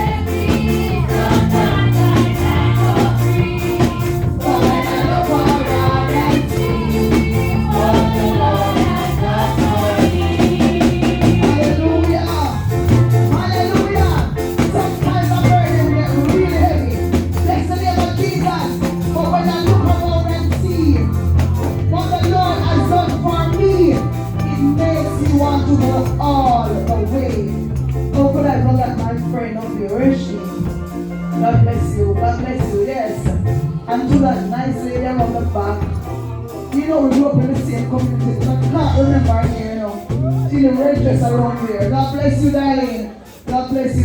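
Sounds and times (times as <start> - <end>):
band with bass and percussion: 0.0 - 44.0
gospel singing: 0.0 - 44.0.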